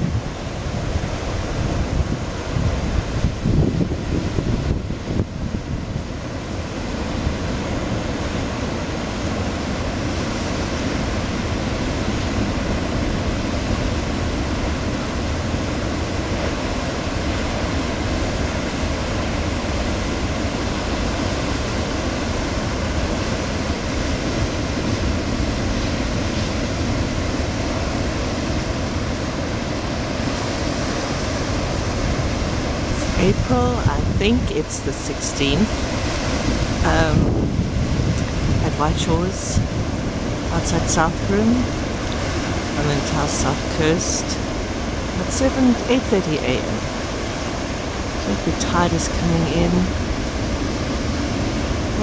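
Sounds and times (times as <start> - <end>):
surf breaking on rocky shore: 0.0 - 52.0
wind buffeting microphone: 0.0 - 52.0.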